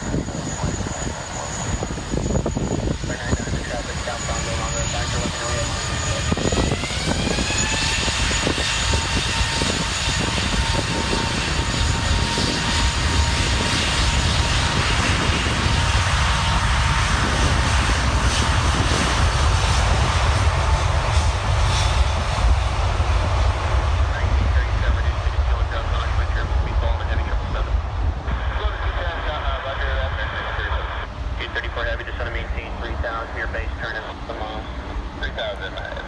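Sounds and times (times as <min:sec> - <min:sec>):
jet engine whine rising: 0:00.0 - 0:36.0
loud jet rumble: 0:00.0 - 0:36.0.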